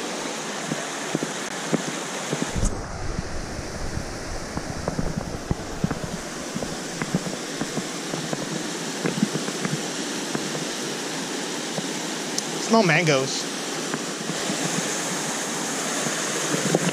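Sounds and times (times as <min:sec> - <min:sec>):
water rushing over rocks: 0:00.0 - 0:16.9.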